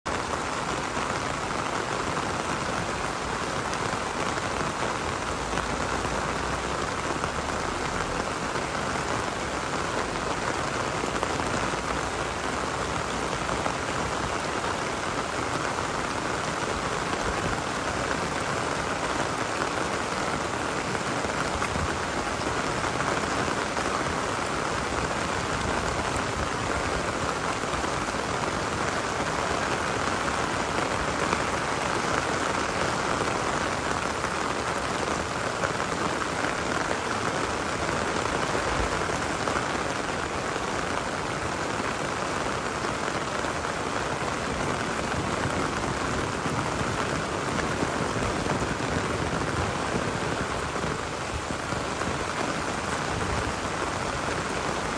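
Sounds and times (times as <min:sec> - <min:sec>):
rain patter: 0:00.0 - 0:54.9.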